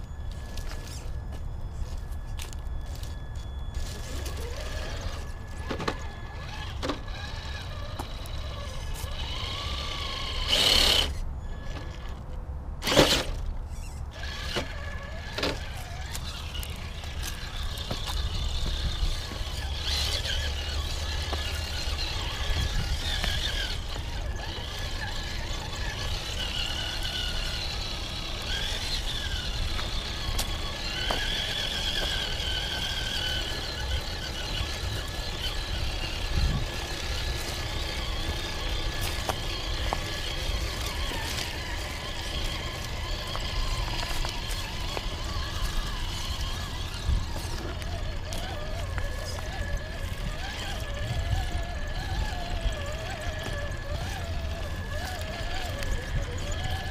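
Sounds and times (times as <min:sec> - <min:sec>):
electric motor whining: 0:00.0 - 0:56.9
toy truck bumping over terrain: 0:03.7 - 0:56.9.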